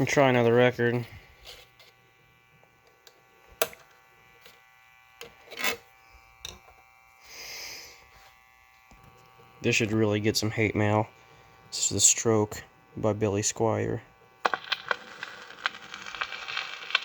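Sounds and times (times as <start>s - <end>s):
faint motor buzz: 0.0s - 17.0s.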